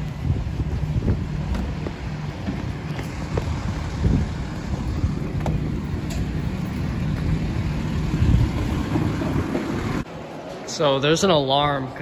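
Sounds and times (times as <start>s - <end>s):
wind buffeting microphone: 0.0s - 10.0s
diesel engines idling: 0.0s - 12.0s.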